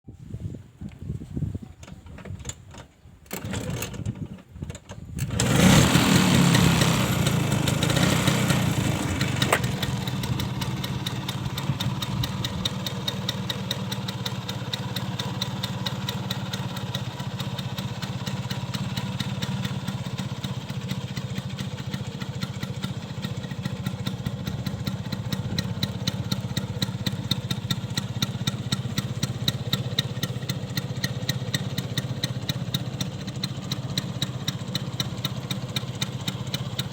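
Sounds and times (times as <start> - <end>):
scooter engine starting and idling: 1.8 - 36.9.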